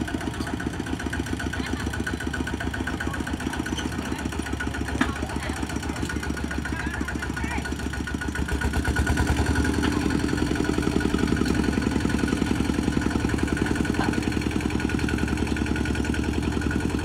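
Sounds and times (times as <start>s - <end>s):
walking tractor diesel engine thumping: 0.0s - 17.0s.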